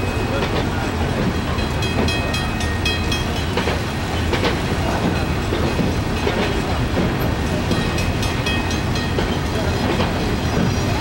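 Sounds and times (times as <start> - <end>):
freight train rumbling past: 0.0 - 11.0
wheels clacking over rail joints: 0.0 - 11.0.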